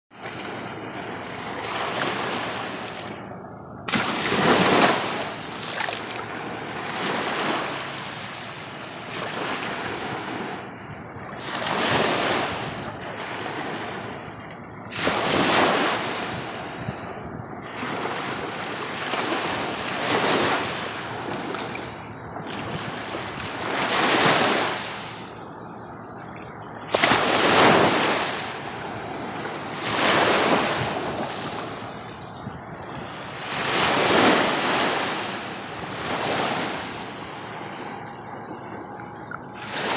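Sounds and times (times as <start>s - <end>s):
wind noise on microphone: 0.1s - 39.9s
surf washing over sand: 3.8s - 39.9s.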